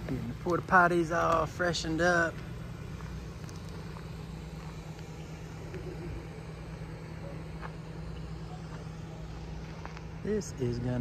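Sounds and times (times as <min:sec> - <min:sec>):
generator humming: 0:00.0 - 0:11.0.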